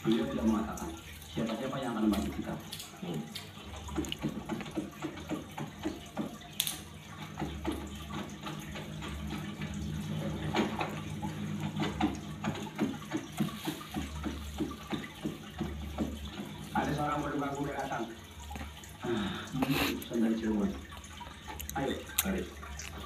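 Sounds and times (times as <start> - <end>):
water running and splashing: 0.0 - 23.0.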